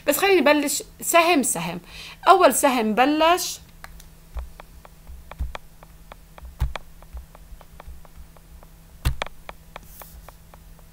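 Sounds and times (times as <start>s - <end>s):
faint steady hum: 0.0s - 10.9s.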